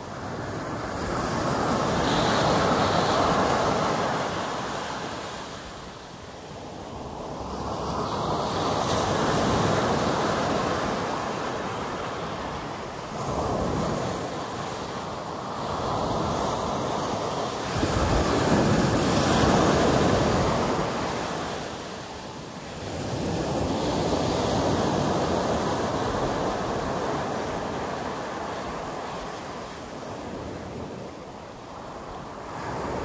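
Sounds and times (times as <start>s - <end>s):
sea waves breaking on beach: 0.0s - 33.0s.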